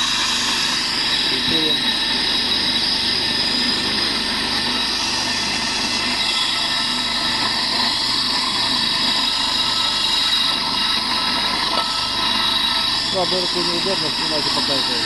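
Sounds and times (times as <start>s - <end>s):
electric motor spinning: 0.0s - 15.0s
metal grinding on grinding stone: 0.0s - 15.0s.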